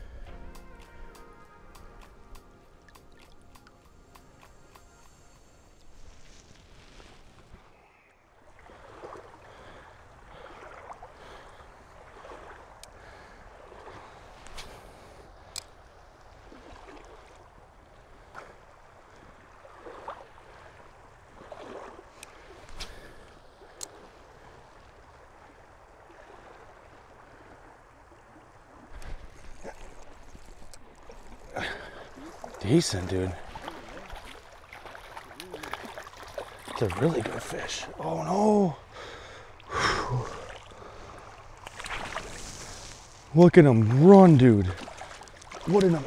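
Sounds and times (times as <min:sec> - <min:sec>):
boots sloshing through water: 0:05.9 - 0:46.0.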